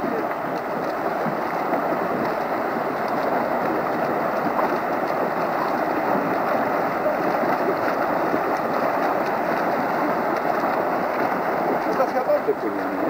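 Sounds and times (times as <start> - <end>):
swimmers splashing water: 0.0 - 13.0.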